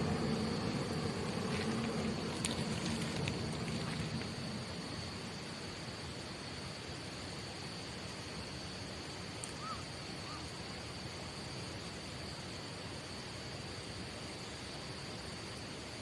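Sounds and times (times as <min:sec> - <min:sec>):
insect trilling: 0:00.0 - 0:13.6
outdoor hiss: 0:00.0 - 0:16.0.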